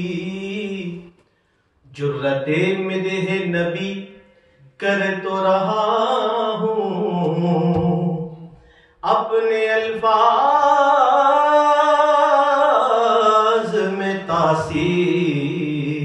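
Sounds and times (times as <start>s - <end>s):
man chanting unaccompanied: 1.9s - 4.1s, 4.7s - 16.0s.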